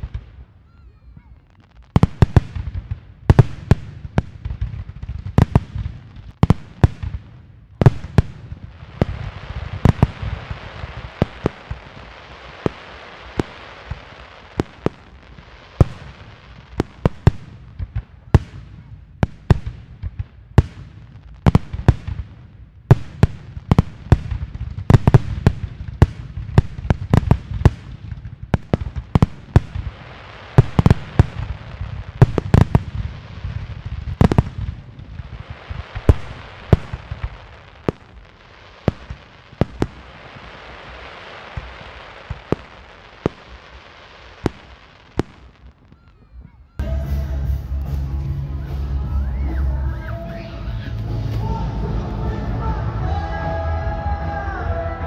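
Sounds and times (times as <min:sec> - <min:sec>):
firework crackle and rumble: 0:00.0 - 0:55.0.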